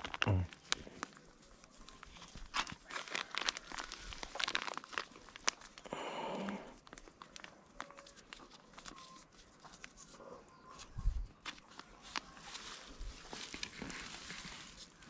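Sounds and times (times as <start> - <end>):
material crinkling and rustling: 0.0 - 15.0.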